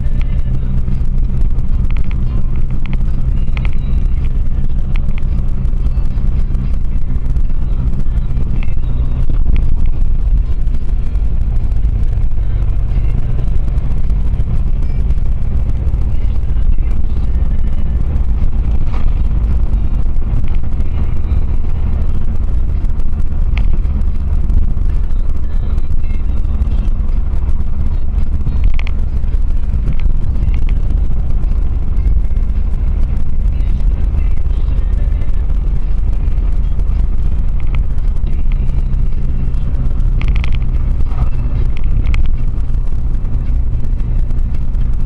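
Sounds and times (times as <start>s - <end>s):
car engine and road drone: 0.0s - 45.0s
faint clicks: 0.0s - 45.0s.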